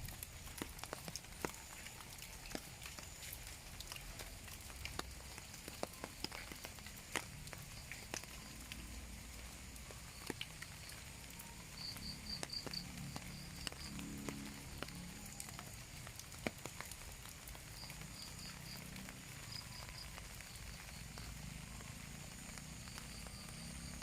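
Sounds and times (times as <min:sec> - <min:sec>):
rain falling: 0:00.0 - 0:24.0
raindrops dripping and clicking: 0:00.0 - 0:24.0.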